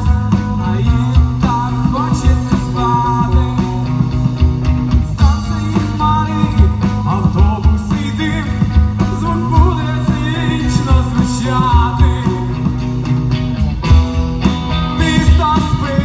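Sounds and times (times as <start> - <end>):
drum beats: 0.0 - 16.0
live rock band playing: 0.0 - 16.0
low bass line: 0.0 - 16.0.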